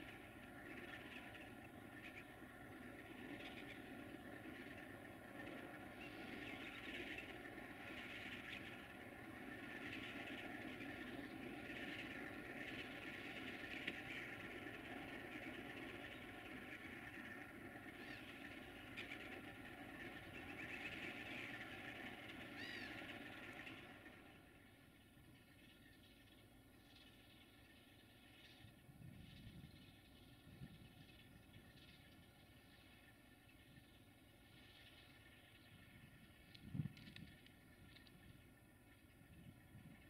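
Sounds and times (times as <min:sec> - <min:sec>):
distant diesel locomotives droning: 0:00.0 - 0:40.0.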